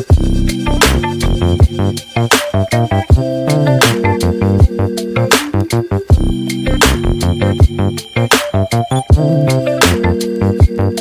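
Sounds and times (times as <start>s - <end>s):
background music with drums: 0.0s - 11.0s.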